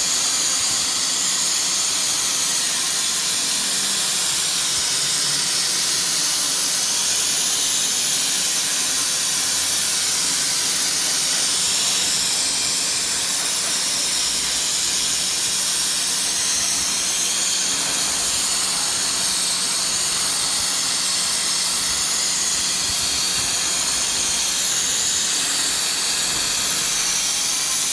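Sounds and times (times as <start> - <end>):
milling machine cutting foam: 0.0 - 27.9.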